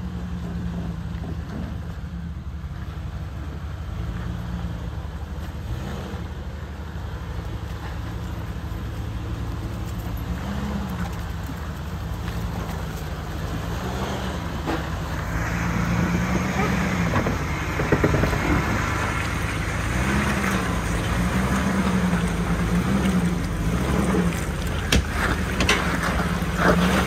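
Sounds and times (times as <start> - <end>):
car engine at low revs: 0.0 - 27.0.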